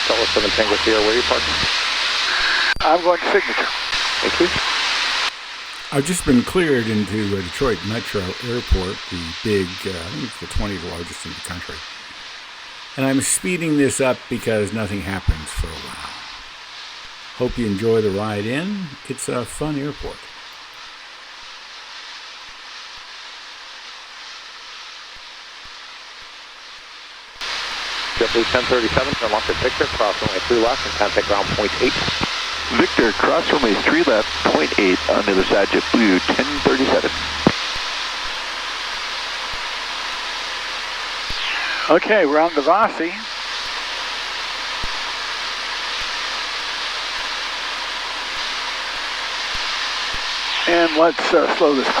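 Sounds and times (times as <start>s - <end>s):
airplane cabin hiss: 0.0s - 25.0s, 27.4s - 52.0s
radio transmission hiss: 0.0s - 52.0s.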